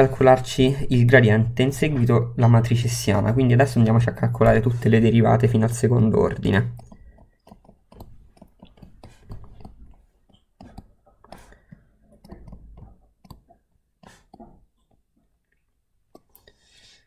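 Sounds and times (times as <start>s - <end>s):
stylus tapping and scratching on screen: 1.5s - 17.0s.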